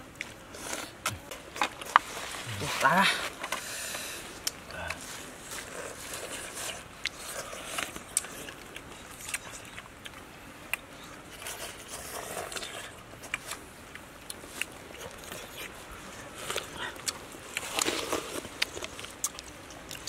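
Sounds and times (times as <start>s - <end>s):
chewing: 3.2s - 20.0s.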